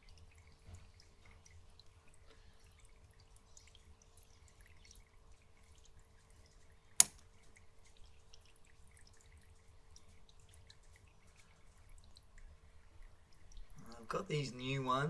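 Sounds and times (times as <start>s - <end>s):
faint steady hum: 0.0s - 15.0s
faint water drips: 0.0s - 15.0s.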